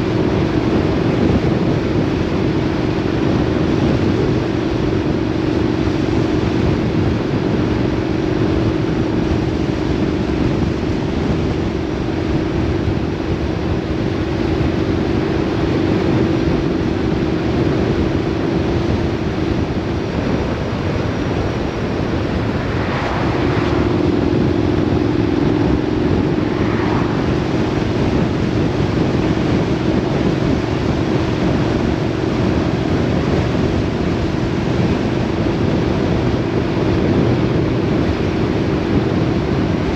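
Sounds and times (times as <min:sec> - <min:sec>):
vehicle engine drone: 0:00.0 - 0:39.9
wind and road noise: 0:00.0 - 0:39.9.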